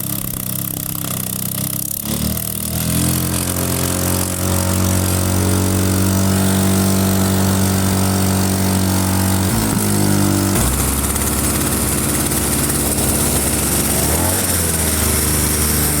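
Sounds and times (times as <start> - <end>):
two-stroke engine running: 0.0 - 16.0.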